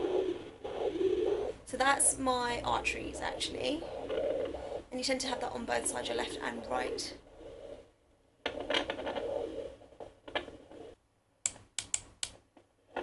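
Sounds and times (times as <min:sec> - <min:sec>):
scratchy doppler static: 0:00.0 - 0:11.0.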